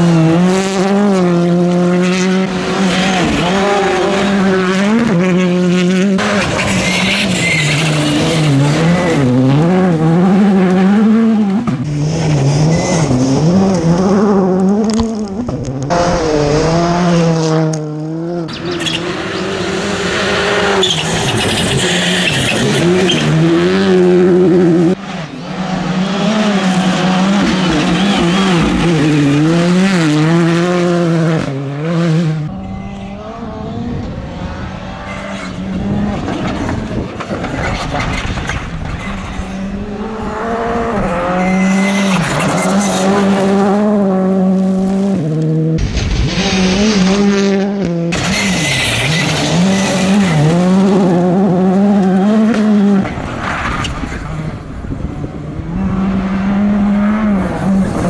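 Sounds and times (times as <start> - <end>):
gravel and tyre noise: 0.0 - 58.0
rally car engines at full pace: 0.0 - 58.0.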